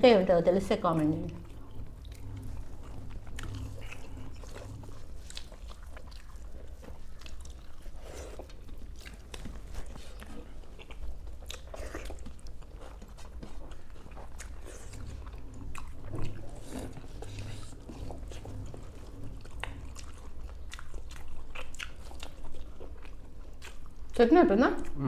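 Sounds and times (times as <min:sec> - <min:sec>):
low steady hum: 0:00.0 - 0:25.0
people chewing food: 0:00.0 - 0:25.0.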